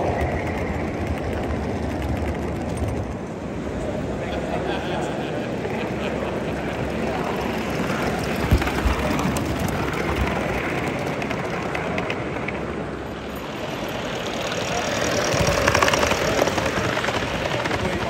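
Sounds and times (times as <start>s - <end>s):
fast clicking of passing train: 0.0s - 18.0s
model train wheels rumbling on rail: 0.0s - 18.0s.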